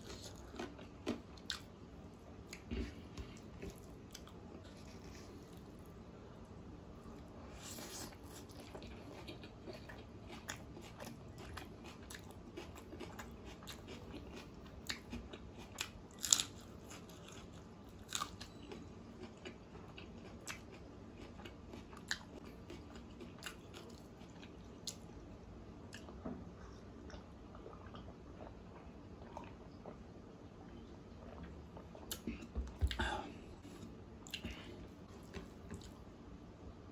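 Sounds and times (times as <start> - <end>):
chewing food: 0.0 - 1.8, 2.4 - 5.9, 7.0 - 25.1, 25.9 - 36.0.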